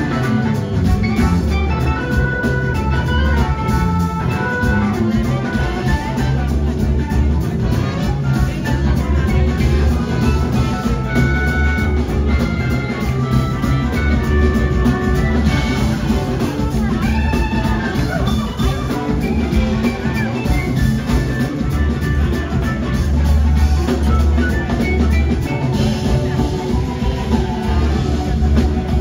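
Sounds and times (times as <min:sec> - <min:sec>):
bass guitar: 0:00.0 - 0:29.0
drum kit: 0:00.0 - 0:29.0
electric guitar: 0:00.0 - 0:29.0
keyboards: 0:00.0 - 0:29.0
trumpets and trombone: 0:00.0 - 0:29.0.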